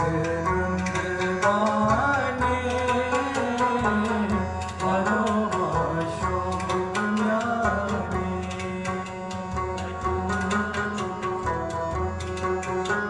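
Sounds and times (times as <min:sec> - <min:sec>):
plucked string instrument: 0:00.0 - 0:13.0
sustained melodic tones: 0:00.0 - 0:13.0
tabla strokes: 0:00.0 - 0:13.0.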